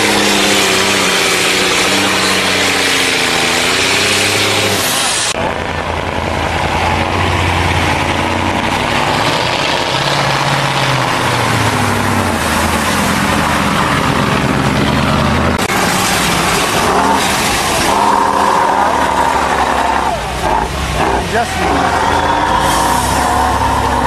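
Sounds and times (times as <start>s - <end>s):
diesel truck engines revving in mud: 0.0s - 24.0s.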